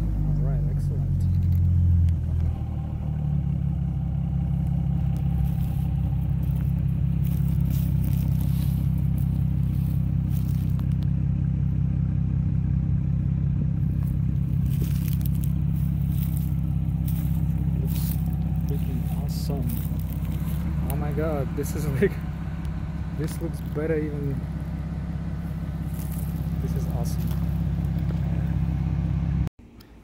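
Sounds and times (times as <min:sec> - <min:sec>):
car engine idling: 0:00.0 - 0:29.8.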